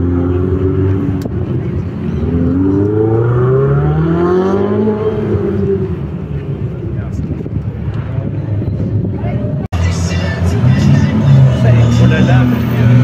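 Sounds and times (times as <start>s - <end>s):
car engine accelerating: 0.0s - 8.9s, 9.5s - 13.0s.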